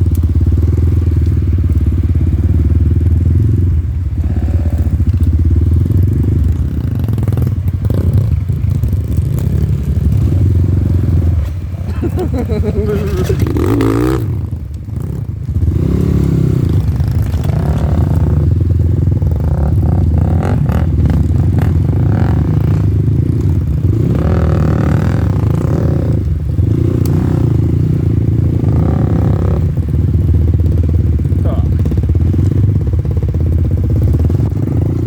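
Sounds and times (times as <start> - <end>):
off-road motorcycle engine revving: 0.0 - 35.0.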